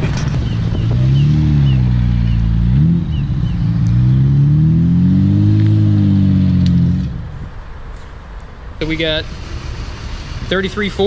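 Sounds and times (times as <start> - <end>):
car engine revving: 0.0 - 7.4, 9.0 - 11.0.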